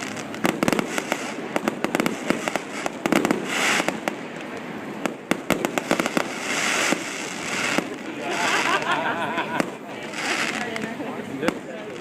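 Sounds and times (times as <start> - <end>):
fireworks cracking and popping: 0.0 - 12.0
fireworks hissing crackle: 0.0 - 12.0.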